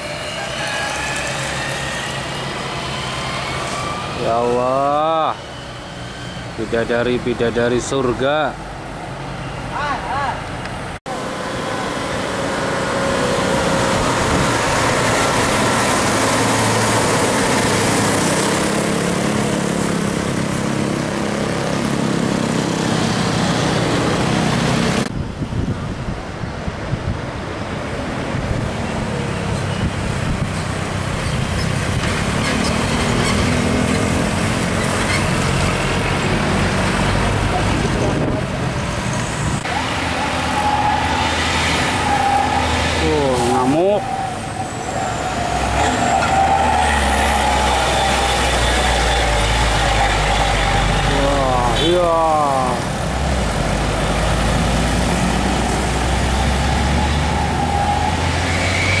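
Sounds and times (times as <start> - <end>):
dump truck diesel engines: 0.0 - 59.0
road traffic noise: 0.0 - 59.0.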